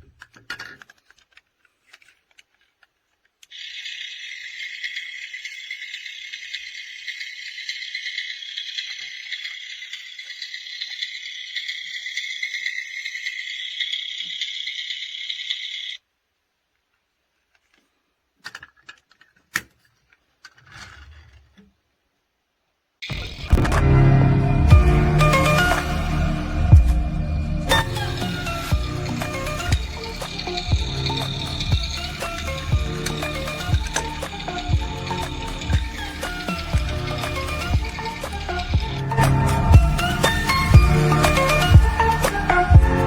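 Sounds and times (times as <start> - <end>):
toy tractor rattling: 0.0 - 16.0, 17.5 - 21.6, 27.7 - 42.8.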